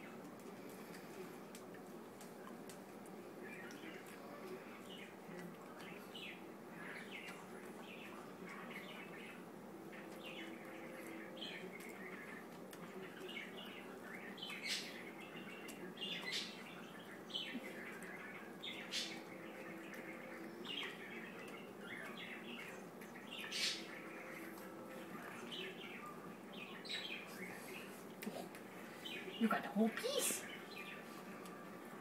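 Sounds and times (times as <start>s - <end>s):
steady low hum: 0.0s - 29.7s.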